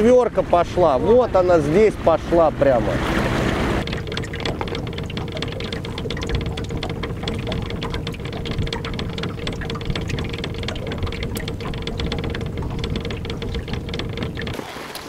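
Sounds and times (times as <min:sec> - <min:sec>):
boat motor whining: 0:00.0 - 0:15.0
water slapping metal hull: 0:00.0 - 0:15.0.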